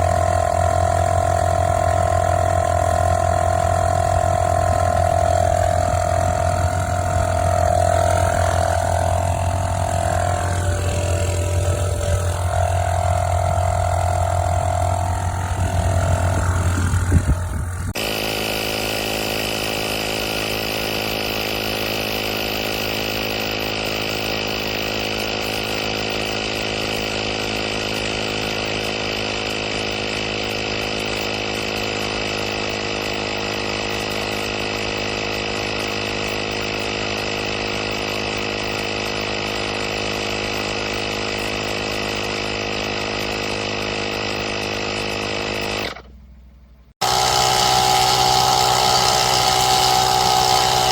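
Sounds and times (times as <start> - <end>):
air compressor humming: 0.0 - 50.9.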